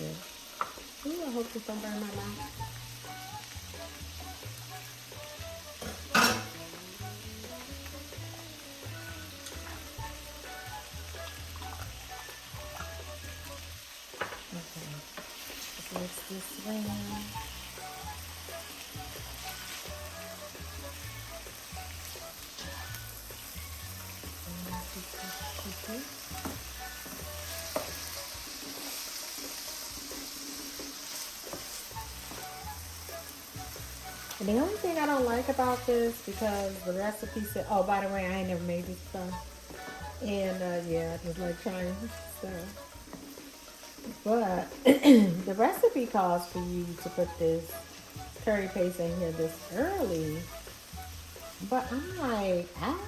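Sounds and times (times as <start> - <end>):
chicken sizzling in a pan: 0.0 - 53.0.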